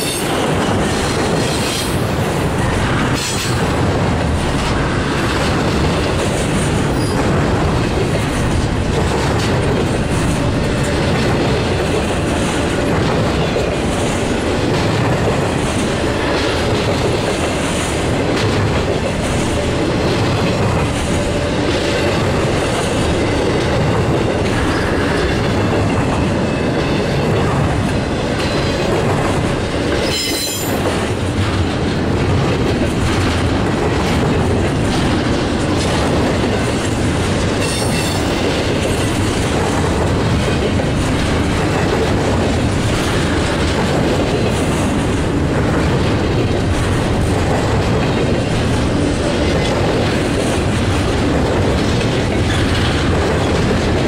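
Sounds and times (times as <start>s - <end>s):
freight train wheels clacking: 0.0s - 54.0s.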